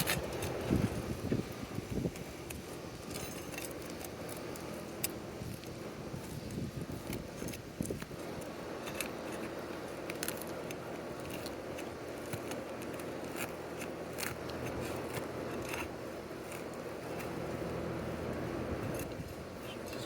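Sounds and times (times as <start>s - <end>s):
steady low hum: 0.0s - 20.0s
roof shingles being pried up: 2.1s - 19.5s.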